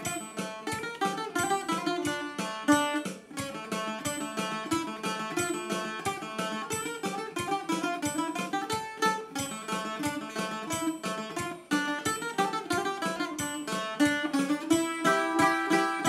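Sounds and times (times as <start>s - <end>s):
bouzouki plucked melody: 0.0s - 16.0s.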